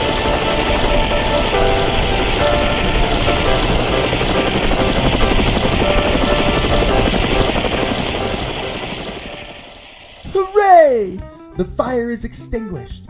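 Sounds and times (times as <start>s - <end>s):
helicopter rotor chopping: 0.0s - 11.2s.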